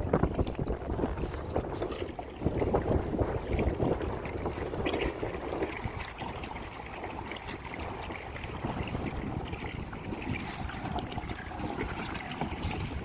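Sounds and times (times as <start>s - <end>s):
paddle strokes splashing water: 0.0s - 13.0s
wind rumbling on microphone: 0.0s - 13.0s.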